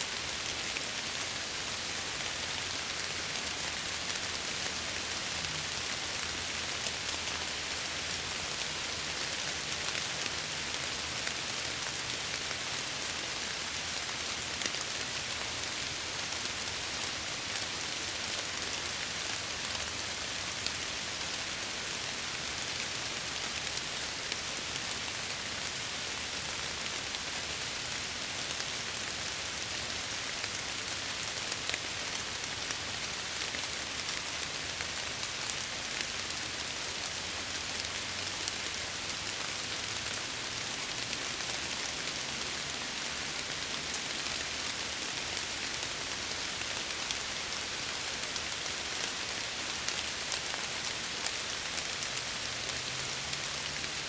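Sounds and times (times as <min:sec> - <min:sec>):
rain pattering on a window: 0:00.1 - 0:54.0.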